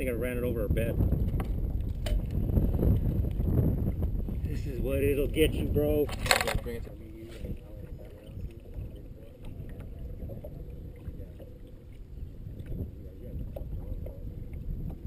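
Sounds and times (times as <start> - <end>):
waves lapping against boat hull: 0.0 - 15.0
wind buffeting microphone: 0.0 - 15.0.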